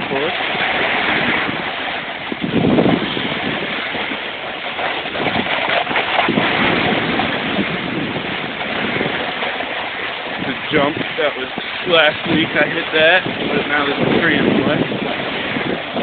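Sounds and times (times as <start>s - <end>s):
snowboard scraping over snow: 0.0s - 16.0s
wind noise on microphone: 0.0s - 16.0s.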